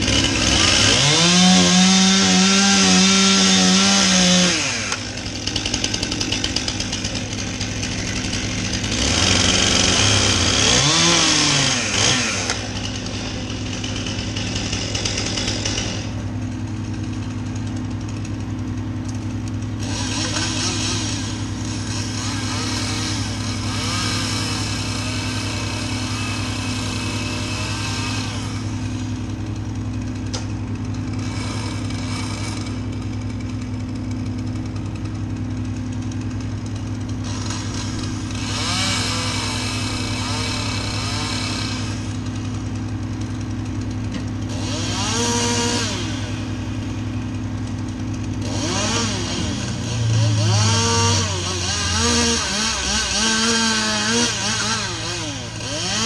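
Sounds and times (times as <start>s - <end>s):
chainsaw revving and cutting: 0.0s - 56.0s.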